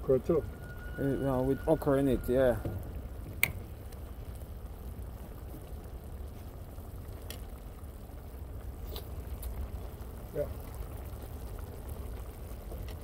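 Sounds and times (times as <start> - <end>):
burner low rumble: 0.0 - 13.0
pan simmering hiss: 0.0 - 13.0.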